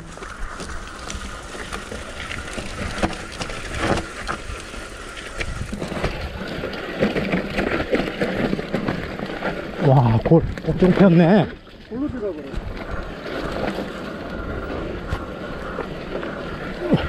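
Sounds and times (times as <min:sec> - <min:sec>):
bike rattling: 0:00.0 - 0:17.0
bike tyres on dirt: 0:00.0 - 0:17.0.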